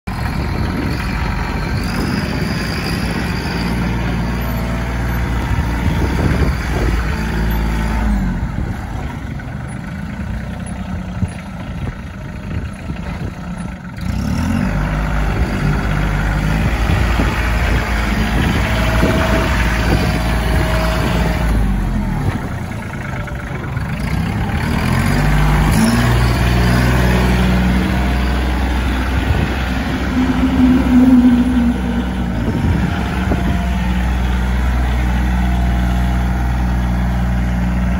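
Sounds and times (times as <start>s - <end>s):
tractor diesel engine revving: 0.1s - 37.9s.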